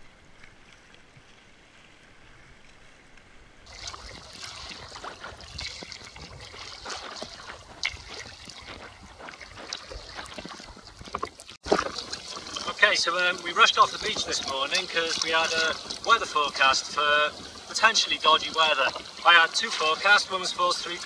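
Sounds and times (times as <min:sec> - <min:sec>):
faint water noise: 0:00.0 - 0:21.0
kayak paddles splashing: 0:00.0 - 0:21.0.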